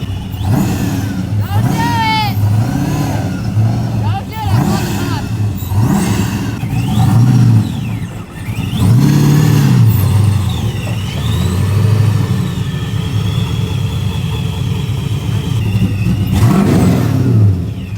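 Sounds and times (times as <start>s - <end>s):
car engine revving hard: 0.0s - 17.9s
tyre squeal: 0.0s - 17.9s.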